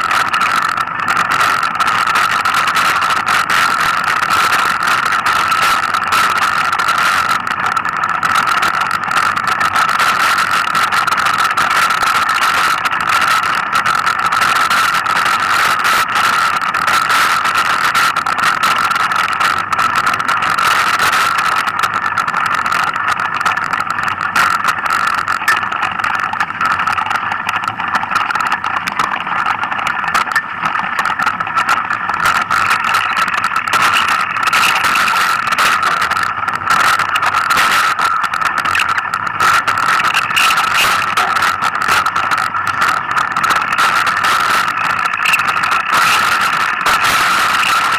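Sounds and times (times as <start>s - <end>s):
bike rattling and clatter: 0.0s - 47.9s
steady high whine: 0.0s - 47.9s.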